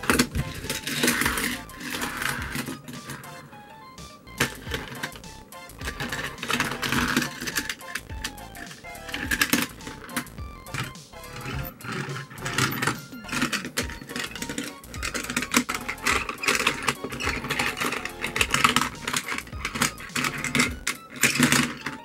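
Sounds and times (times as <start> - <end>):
toy cars clicking on plastic: 0.0 - 3.5, 4.4 - 22.0.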